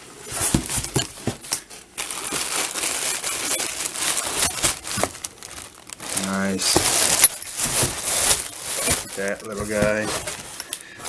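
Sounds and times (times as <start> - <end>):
packing material crinkling: 0.2 - 11.0.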